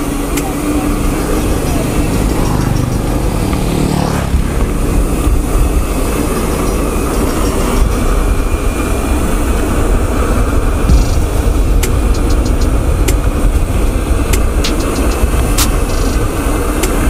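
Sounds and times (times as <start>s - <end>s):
bike tyre noise on road: 0.0s - 17.0s
scooter engine passing: 0.0s - 17.0s
wind buffeting microphone: 0.0s - 17.0s.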